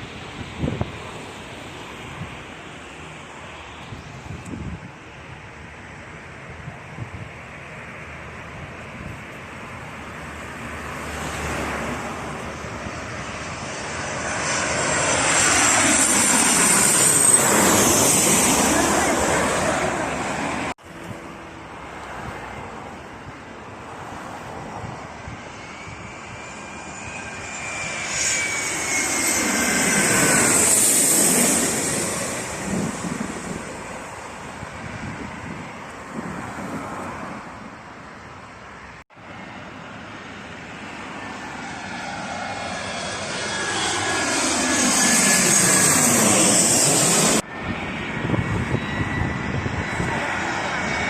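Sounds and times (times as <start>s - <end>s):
jet airliner passing overhead: 0.0s - 51.0s.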